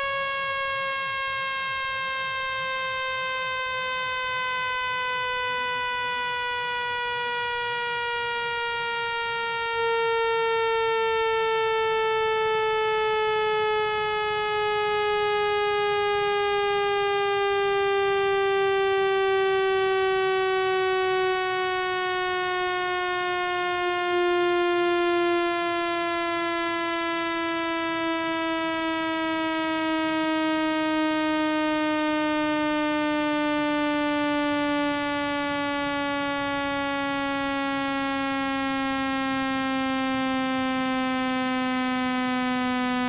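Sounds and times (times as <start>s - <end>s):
buzzy synthesized tone sliding down: 0.0s - 43.0s.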